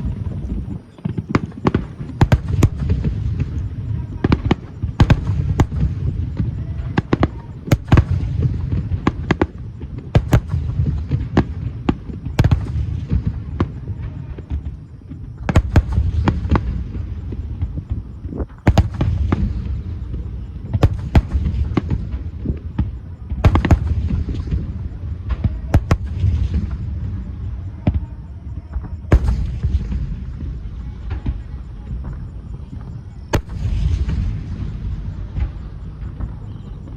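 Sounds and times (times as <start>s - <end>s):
fireworks bursting with sharp bangs: 0.0s - 36.9s
low rumble of echoing detonations: 0.0s - 36.9s.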